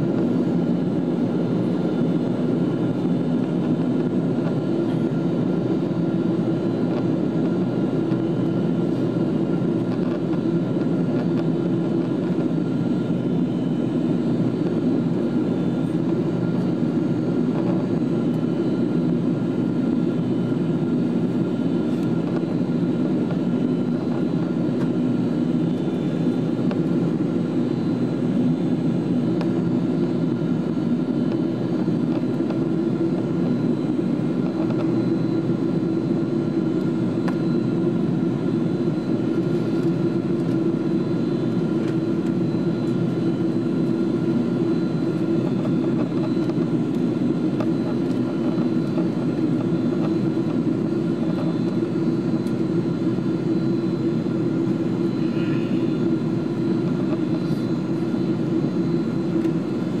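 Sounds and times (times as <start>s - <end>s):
faint steady hums: 0.0s - 60.0s
jet engines and airflow roar: 0.0s - 60.0s.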